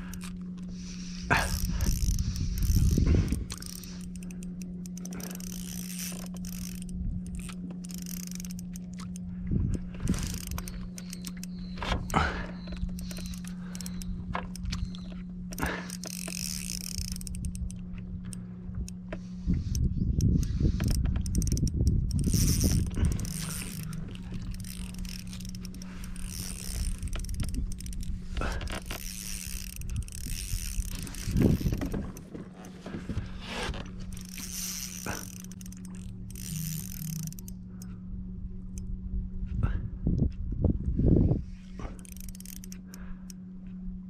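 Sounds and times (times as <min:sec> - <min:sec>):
reel handle cranking: 0:00.0 - 0:38.0, 0:41.6 - 0:43.8
fishing reel drag ticking: 0:00.0 - 0:39.0, 0:41.6 - 0:43.8
steady low hum: 0:00.0 - 0:44.0.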